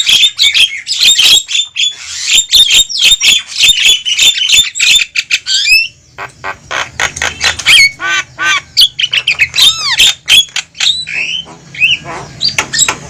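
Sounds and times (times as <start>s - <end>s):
birds squawking and chattering: 0.0s - 13.0s.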